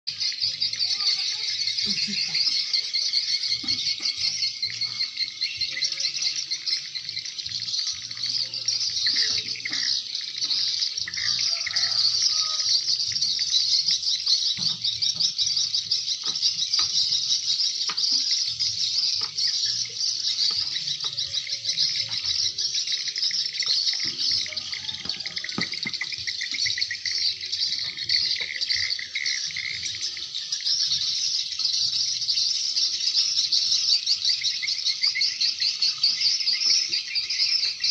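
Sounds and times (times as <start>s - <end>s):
swiftlets twittering: 0.1s - 37.9s.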